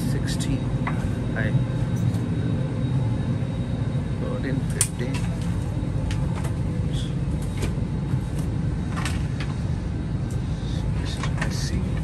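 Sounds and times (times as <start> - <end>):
airliner cabin hum: 0.0 - 12.0.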